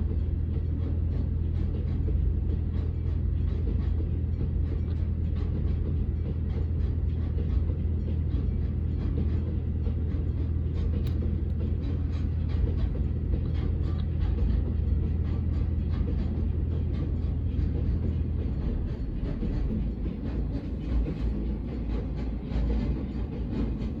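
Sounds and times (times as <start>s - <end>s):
diesel locomotive drone: 0.0s - 24.0s
train wheels clacking on rails: 0.0s - 24.0s.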